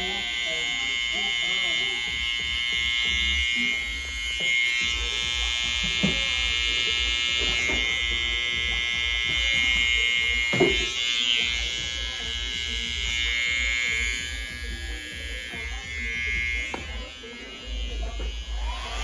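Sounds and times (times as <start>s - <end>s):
hair clipper buzzing: 0.0s - 19.0s.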